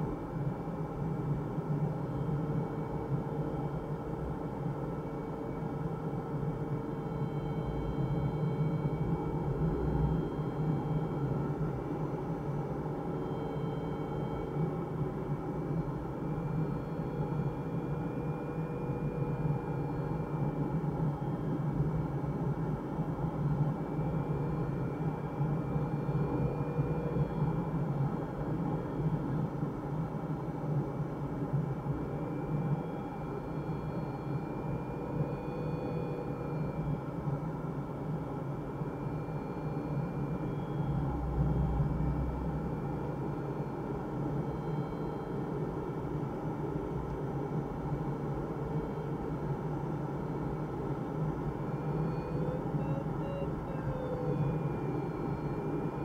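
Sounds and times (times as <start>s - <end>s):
faint wavering high tone: 2.0s - 21.4s, 23.4s - 29.2s, 31.7s - 46.3s, 46.9s - 56.0s.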